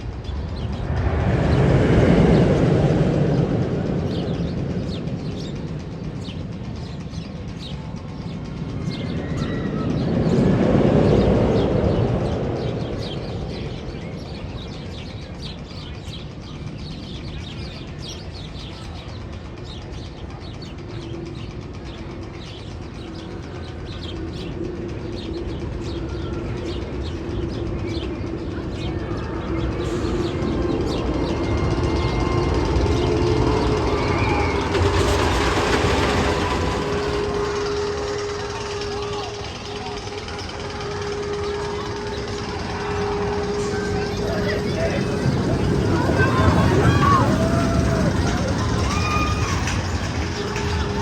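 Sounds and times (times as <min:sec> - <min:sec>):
birds chirping: 0:00.0 - 0:51.0
roller coaster rumbling on track: 0:00.0 - 0:51.0.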